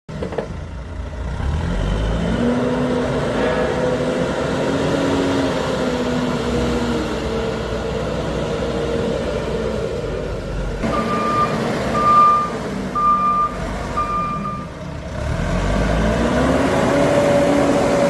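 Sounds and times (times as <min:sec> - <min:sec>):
diesel engine revving: 0:00.1 - 0:18.0.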